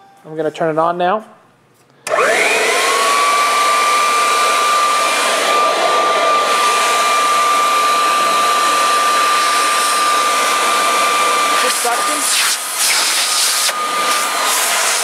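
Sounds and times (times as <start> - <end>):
vacuum cleaner running: 2.0 - 15.0.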